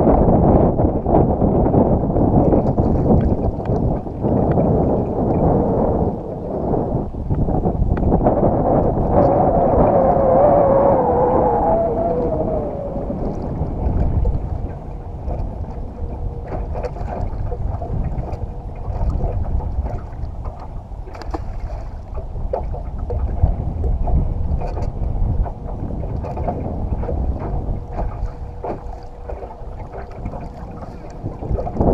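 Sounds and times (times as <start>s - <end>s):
wind rumbling on microphone: 0.0s - 31.9s.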